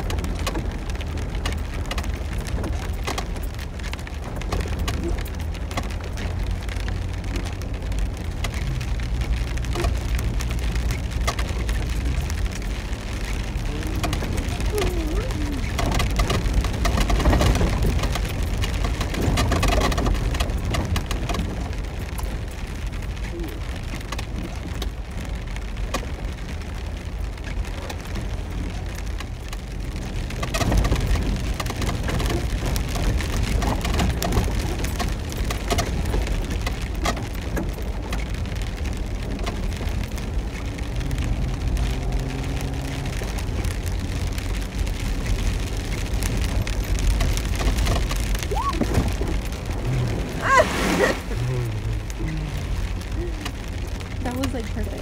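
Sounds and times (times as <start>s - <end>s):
engine rumble: 0.0s - 55.0s
heavy rain on a vehicle: 0.0s - 55.0s
tyres on wet dirt road: 0.0s - 55.0s.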